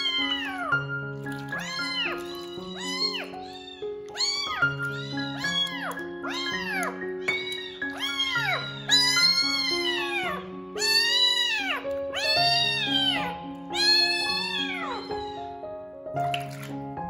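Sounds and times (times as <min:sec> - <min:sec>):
kitten meowing: 0:00.0 - 0:15.6
background music: 0:00.0 - 0:17.0.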